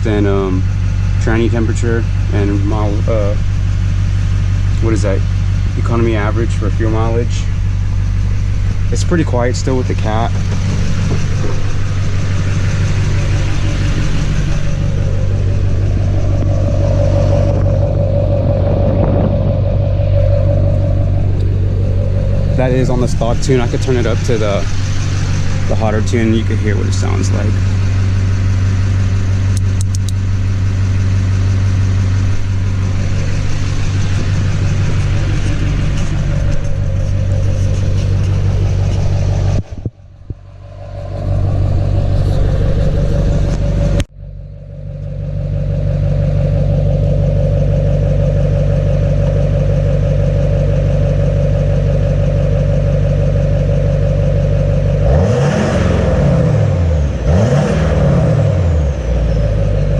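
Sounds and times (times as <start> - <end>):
diesel engine idling: 0.0 - 59.9
engine revving: 0.0 - 59.9.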